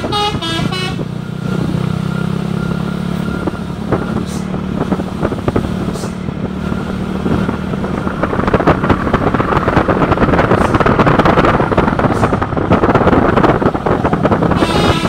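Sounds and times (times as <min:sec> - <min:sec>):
heavy vehicle engine clattering: 0:00.0 - 0:15.0.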